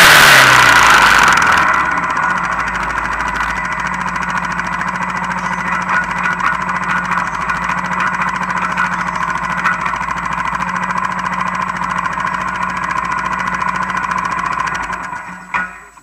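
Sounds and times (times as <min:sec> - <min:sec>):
quad engine running: 0:00.0 - 0:16.0.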